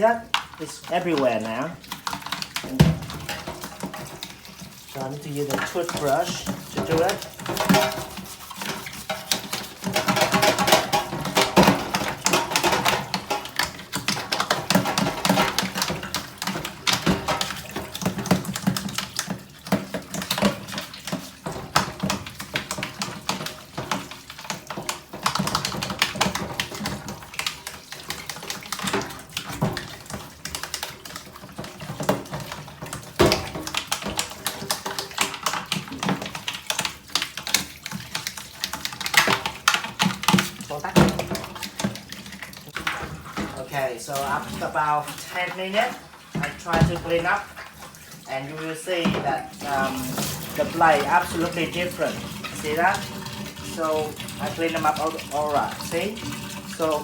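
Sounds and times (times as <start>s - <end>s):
toothbrush scrubbing plastic: 0.0s - 57.0s.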